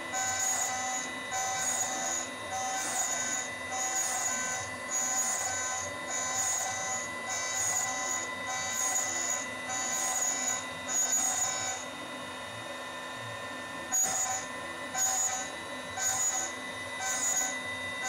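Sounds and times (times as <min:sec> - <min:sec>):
cnc spindle whine: 0:00.0 - 0:18.0
high cutting squeal: 0:00.1 - 0:11.8, 0:13.9 - 0:18.0.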